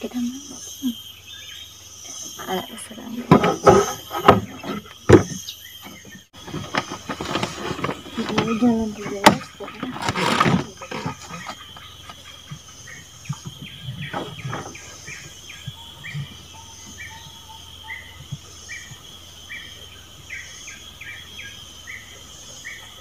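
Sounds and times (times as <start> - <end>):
bird chirping: 0.0 - 23.0
insects droning: 0.0 - 23.0.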